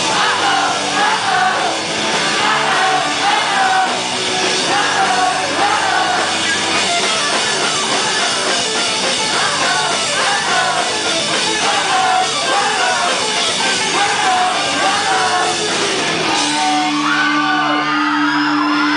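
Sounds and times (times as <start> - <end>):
lead singer singing: 0.0 - 6.6, 7.8 - 17.7
live rock band playing: 0.0 - 18.9.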